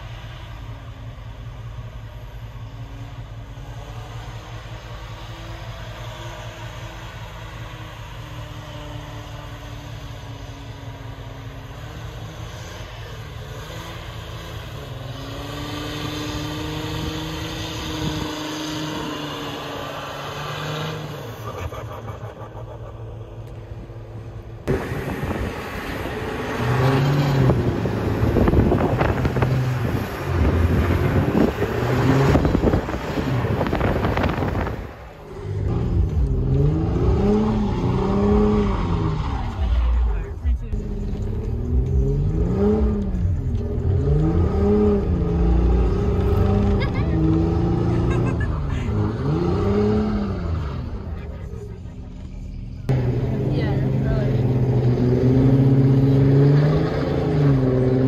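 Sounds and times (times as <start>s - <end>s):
diesel truck engine under throttle: 0.0s - 58.0s.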